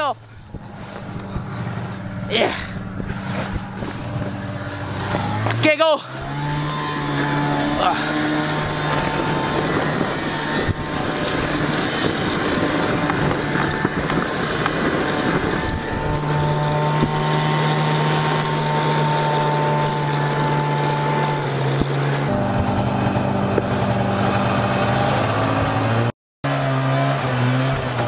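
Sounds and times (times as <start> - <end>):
snowmobile engine running: 0.0 - 28.0
sled rushing hiss over snow: 0.2 - 25.6.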